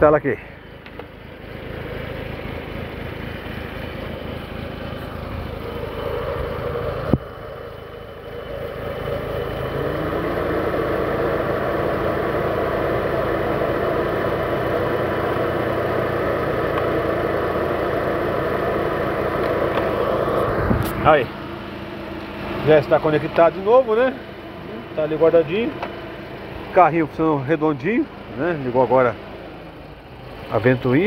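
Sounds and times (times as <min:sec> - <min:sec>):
car engine idling: 0:00.0 - 0:31.0
radiator cooling fan whirring: 0:00.5 - 0:31.0.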